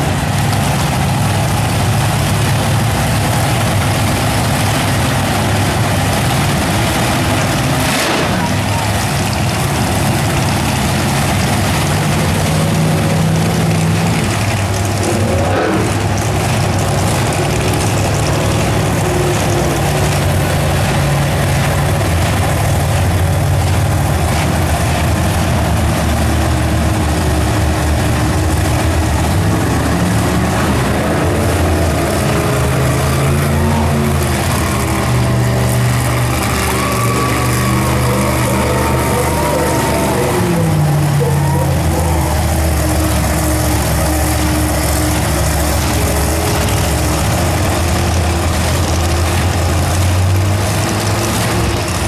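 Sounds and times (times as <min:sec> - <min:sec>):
monster truck engines droning: 0:00.0 - 0:52.0.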